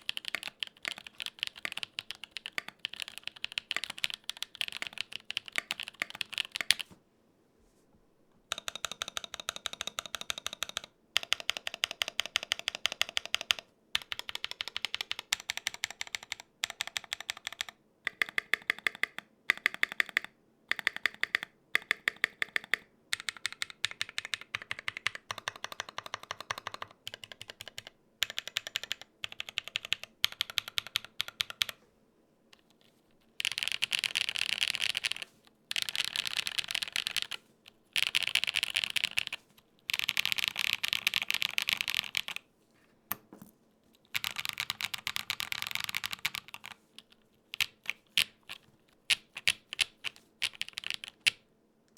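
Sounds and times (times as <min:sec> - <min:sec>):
mechanical keyboard typing: 0:00.0 - 0:06.9, 0:08.5 - 0:31.8, 0:33.4 - 0:42.4, 0:44.1 - 0:51.4.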